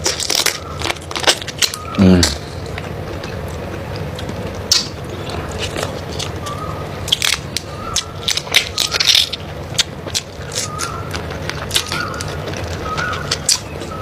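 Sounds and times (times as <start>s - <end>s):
chewing and crunching food: 0.0s - 14.0s.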